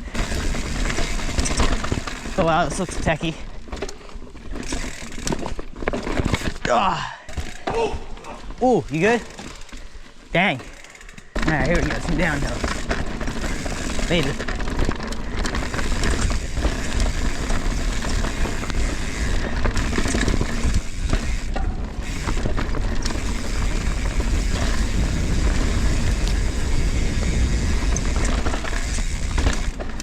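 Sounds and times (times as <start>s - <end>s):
bike rattling: 0.0s - 30.0s.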